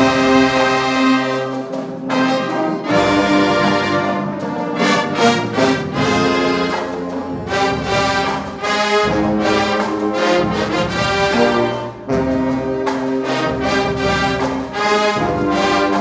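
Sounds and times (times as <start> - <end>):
brass band playing held chords: 0.0 - 16.0.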